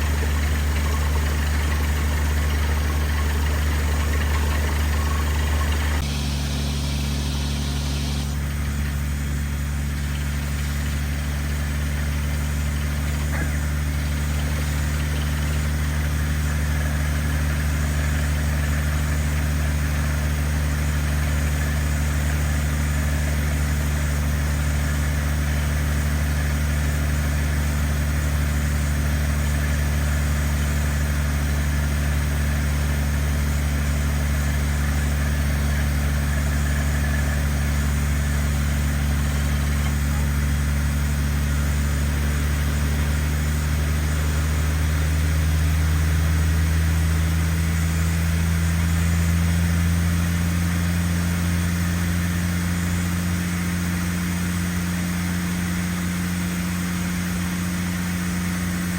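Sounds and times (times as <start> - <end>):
engine humming steadily: 0.0 - 58.9.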